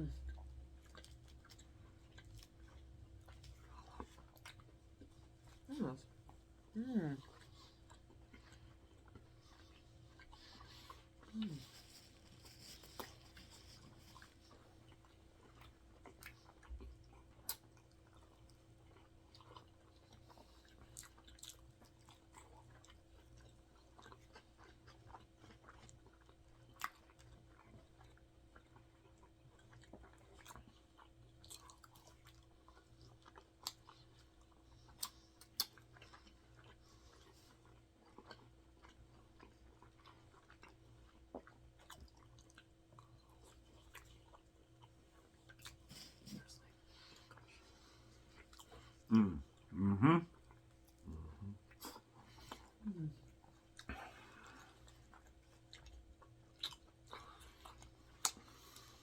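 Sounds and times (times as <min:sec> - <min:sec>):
faint steady hum: 0:00.0 - 0:59.0
people chewing and biting food: 0:00.0 - 0:59.0.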